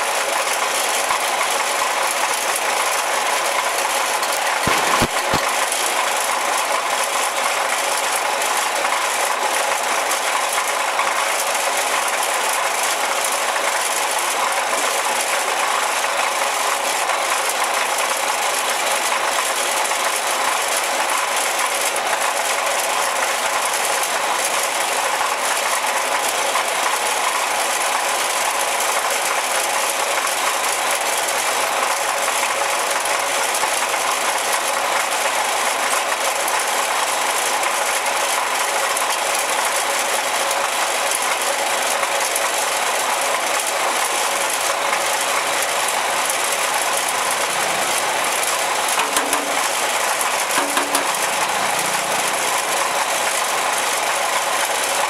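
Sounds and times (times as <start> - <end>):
train running: 0.0 - 55.0.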